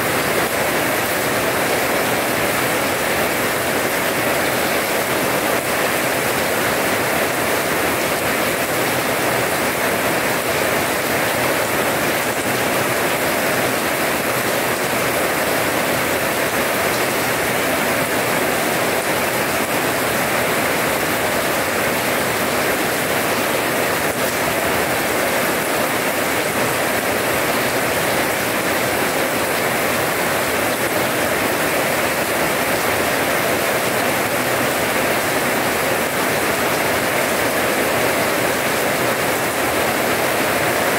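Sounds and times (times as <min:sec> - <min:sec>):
rain on wet paving: 0:00.0 - 0:40.9.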